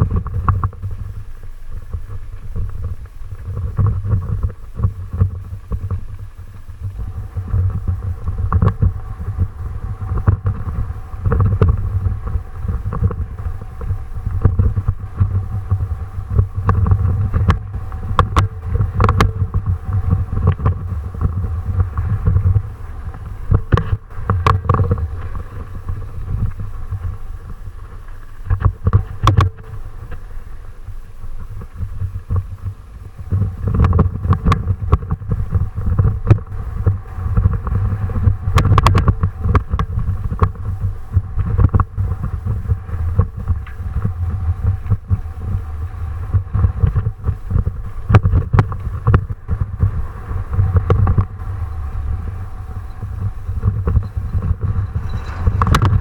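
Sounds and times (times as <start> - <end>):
faint steady whine: 0.0 - 56.0
wind buffeting microphone: 0.0 - 56.0.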